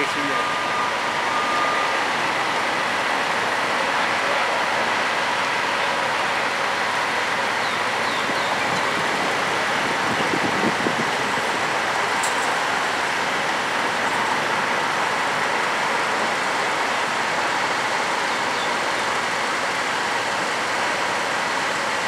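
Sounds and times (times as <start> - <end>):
diesel machinery: 0.0 - 22.0
road traffic: 0.0 - 22.0.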